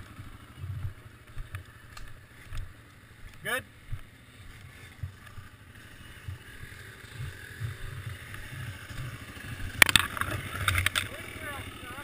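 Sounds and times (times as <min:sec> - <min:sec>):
muffled quad engine rumble: 0:00.0 - 0:12.0.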